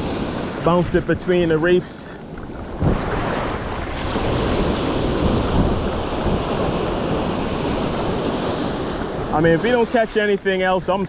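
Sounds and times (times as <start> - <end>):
ocean surf washing on sand: 0.0 - 11.0
wind rumbling on microphone: 0.0 - 11.0.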